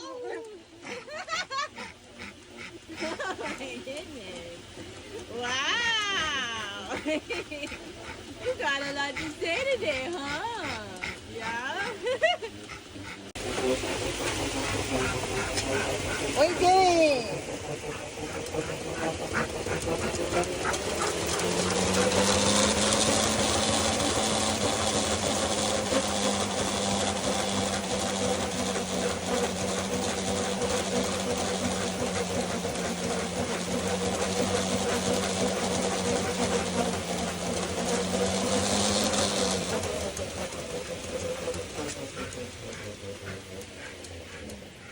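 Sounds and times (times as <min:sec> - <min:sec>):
treadmill motor whining: 0:00.0 - 0:44.9.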